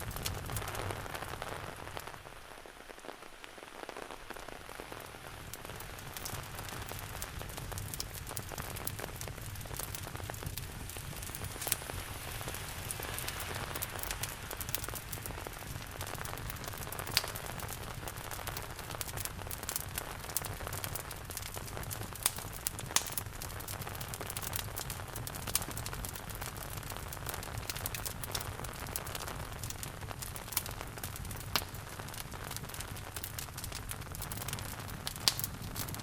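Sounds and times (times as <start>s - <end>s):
steady rain: 0.0s - 36.0s
wood fire crackling and popping: 0.0s - 36.0s.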